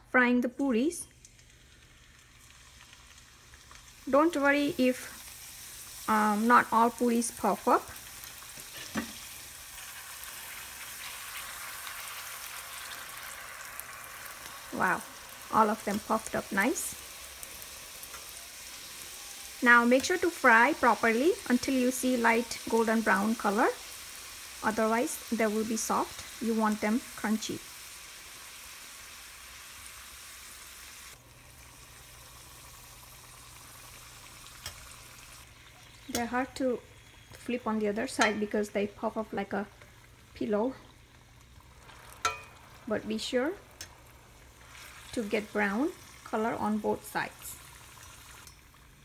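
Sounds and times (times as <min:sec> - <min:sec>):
dough deep-frying in hot oil: 0:00.0 - 0:49.0.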